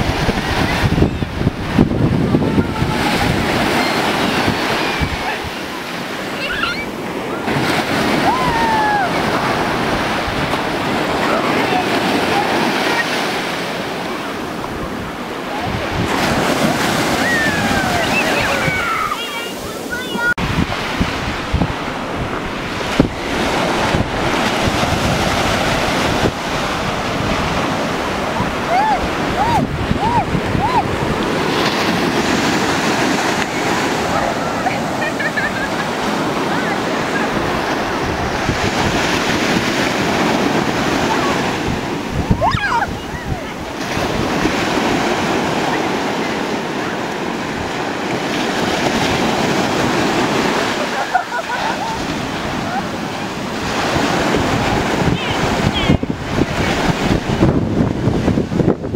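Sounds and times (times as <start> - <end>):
wind buffeting microphone: 0.0 - 51.0, 51.6 - 58.9
ocean surf breaking: 0.0 - 58.9.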